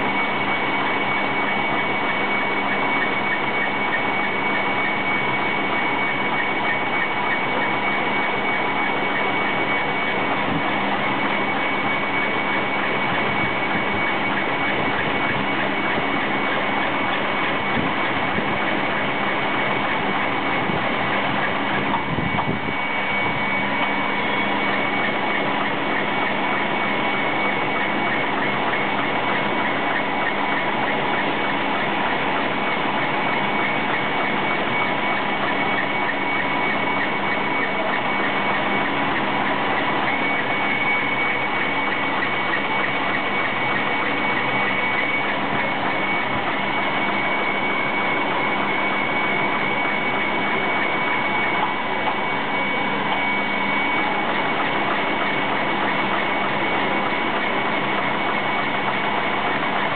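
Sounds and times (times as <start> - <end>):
drilling machine mechanical clatter: 0.0 - 59.9
machine high whine: 0.0 - 59.9.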